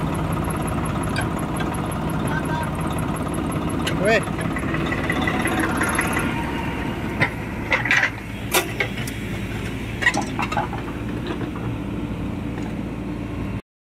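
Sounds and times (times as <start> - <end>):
diesel engine running: 0.0 - 13.6.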